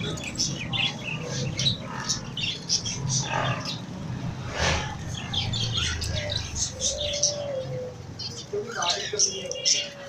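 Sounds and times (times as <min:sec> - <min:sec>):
caged birds chirping and squawking: 0:00.0 - 0:10.0.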